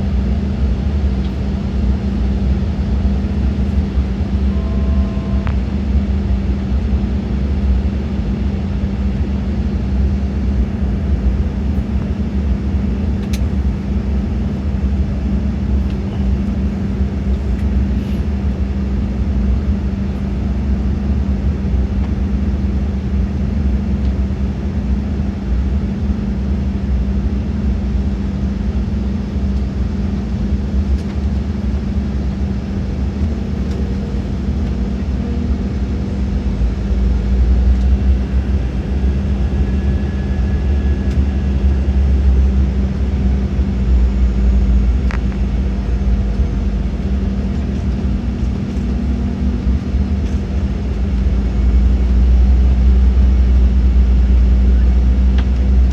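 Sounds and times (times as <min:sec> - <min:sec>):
airliner cabin engine rumble: 0:00.0 - 0:55.9
steady hum: 0:00.0 - 0:55.9.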